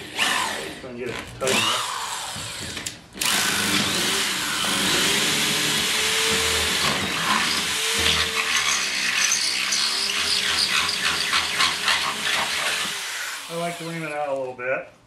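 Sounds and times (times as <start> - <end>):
electric drill boring into wood: 0.0 - 14.1.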